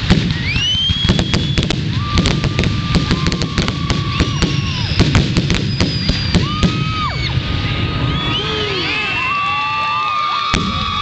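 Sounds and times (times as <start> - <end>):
fireworks bangs and crackles: 0.0 - 11.0
fireworks whistling: 0.0 - 11.0.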